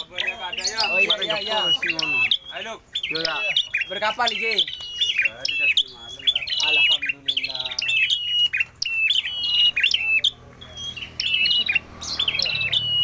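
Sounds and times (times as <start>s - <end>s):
songbird sharp high chipping: 0.0s - 13.0s.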